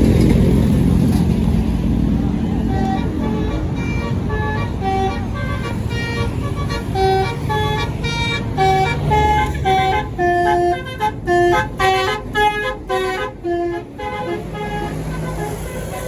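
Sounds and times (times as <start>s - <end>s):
musical air horn playing a tune: 2.6s - 16.0s.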